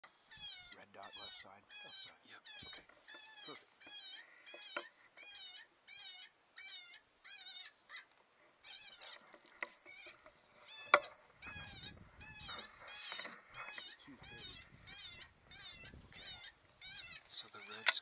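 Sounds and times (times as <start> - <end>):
animal distress cry call: 0.0 - 18.0.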